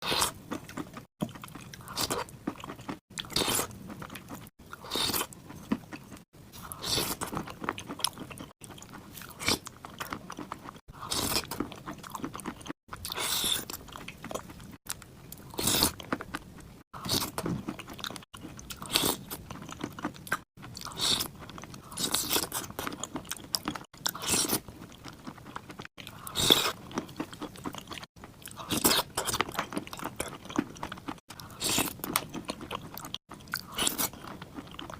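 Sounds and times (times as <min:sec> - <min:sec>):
crunching and chewing clay: 0:00.0 - 0:34.9.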